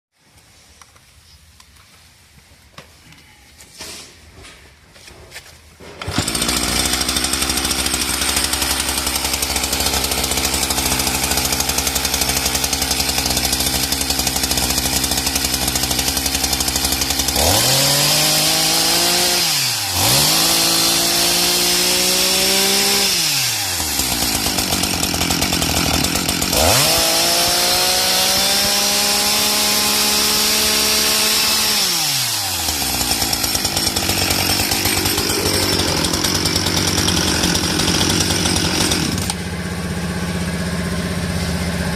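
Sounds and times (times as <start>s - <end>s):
chainsaw idling and revving: 6.0s - 41.9s.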